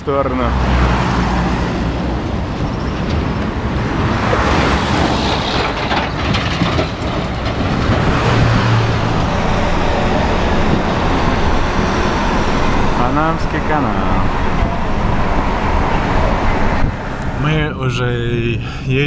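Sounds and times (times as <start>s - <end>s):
vehicle rumble and road noise: 0.0s - 19.0s.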